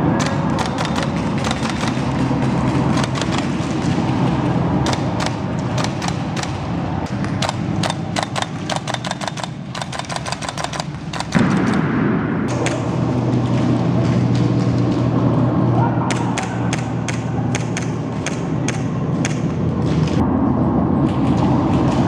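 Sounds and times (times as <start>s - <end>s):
airsoft guns firing: 0.0s - 20.2s.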